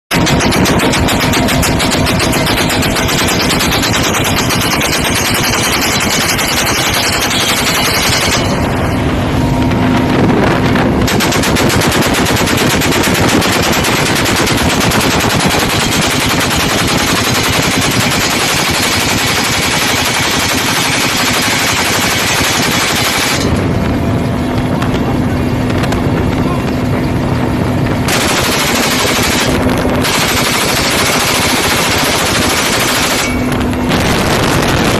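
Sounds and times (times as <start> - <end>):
machine gun automatic bursts: 0.1 - 8.8, 11.0 - 23.6, 28.1 - 34.9
helicopter hum: 0.1 - 34.9.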